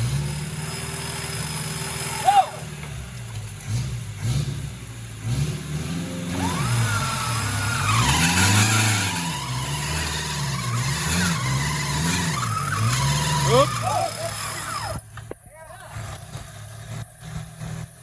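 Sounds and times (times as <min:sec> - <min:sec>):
off-road engine revving: 0:00.0 - 0:18.0.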